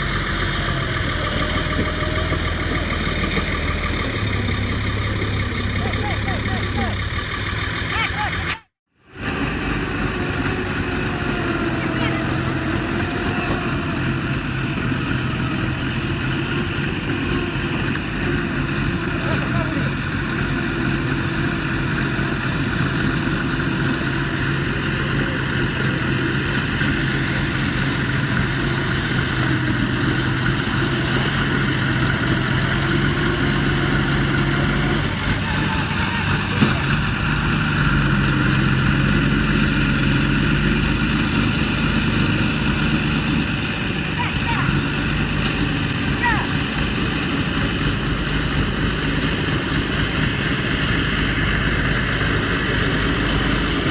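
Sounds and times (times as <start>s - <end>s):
heavy vehicle engine running: 0.0s - 53.9s.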